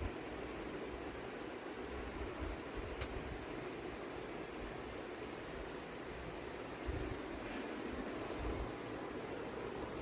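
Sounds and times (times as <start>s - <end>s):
low background hiss: 0.0s - 10.0s.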